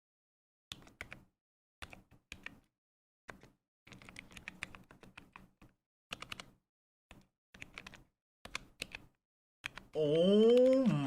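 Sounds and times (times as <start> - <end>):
clicky keyboard typing: 0.7 - 2.7, 3.3 - 11.0.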